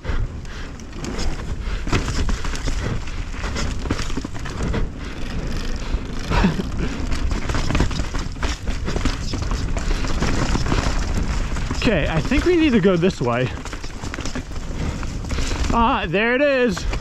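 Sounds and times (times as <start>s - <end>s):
bike tyre rumble: 0.0s - 17.0s
chain and frame rattling: 0.4s - 17.0s.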